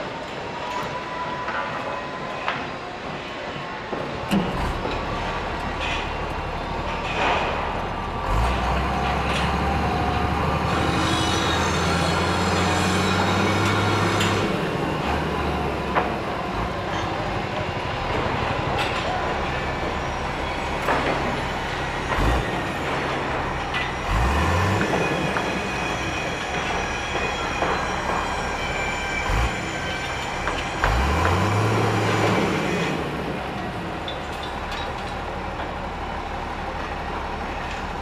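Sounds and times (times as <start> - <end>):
heavy machinery noise: 0.0 - 38.0
heavy engine revving: 4.4 - 38.0.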